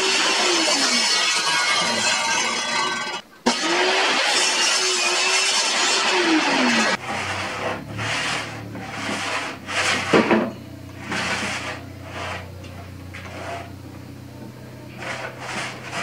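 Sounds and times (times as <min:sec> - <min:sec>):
wood being scraped: 0:00.0 - 0:14.0, 0:14.9 - 0:16.0.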